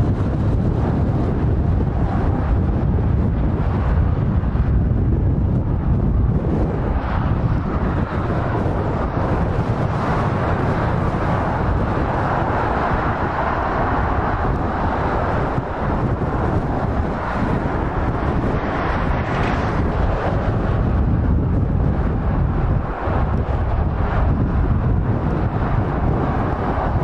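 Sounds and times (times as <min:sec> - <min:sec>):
roar of passing vehicles: 0:00.0 - 0:27.0
wind buffeting microphone: 0:00.0 - 0:27.0.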